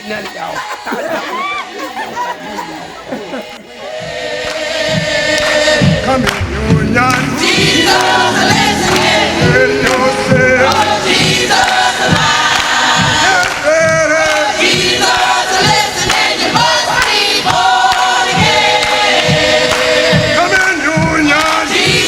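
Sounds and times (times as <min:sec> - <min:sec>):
gospel choir singing: 0:00.0 - 0:22.0
low drum beat: 0:03.6 - 0:22.0.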